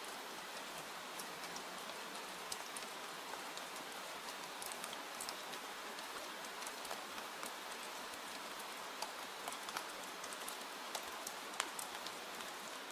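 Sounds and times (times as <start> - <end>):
rain hiss: 0.0 - 12.9
sharp ticks and crackles: 0.6 - 12.8.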